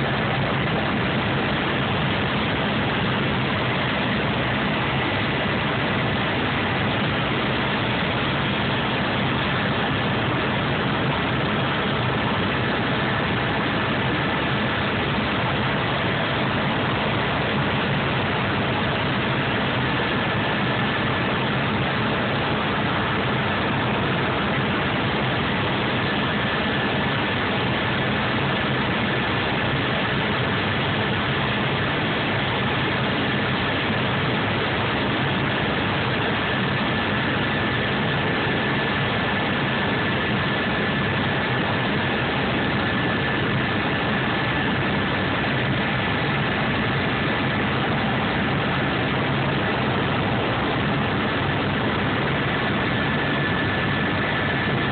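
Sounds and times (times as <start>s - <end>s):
helicopter engine and rotor drone: 0.0s - 54.9s
high whine: 0.0s - 54.9s.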